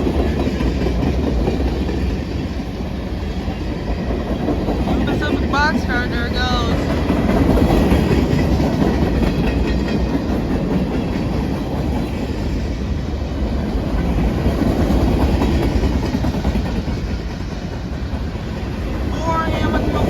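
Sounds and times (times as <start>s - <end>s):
freight train rolling past: 0.0s - 20.0s.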